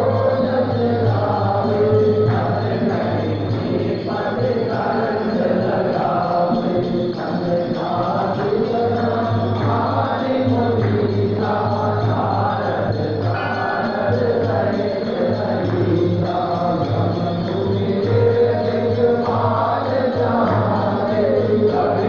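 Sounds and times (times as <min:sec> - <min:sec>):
voices chanting together: 0:00.0 - 0:22.0.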